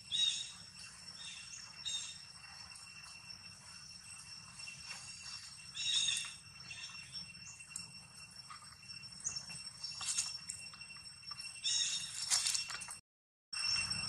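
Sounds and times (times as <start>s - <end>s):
high insect drone: 0.0s - 13.0s, 13.6s - 14.0s.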